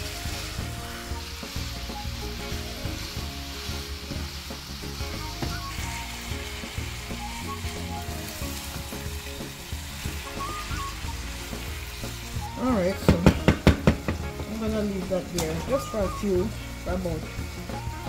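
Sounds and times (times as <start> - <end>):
background music: 0.0 - 18.0
meat sizzling in a frying pan: 0.0 - 18.0.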